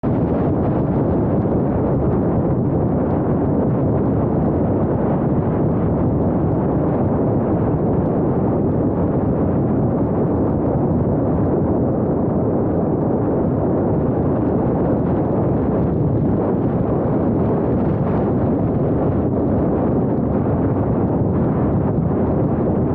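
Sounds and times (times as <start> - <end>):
car wind and road rumble: 0.0 - 22.9
wind buffeting microphone: 0.0 - 22.9.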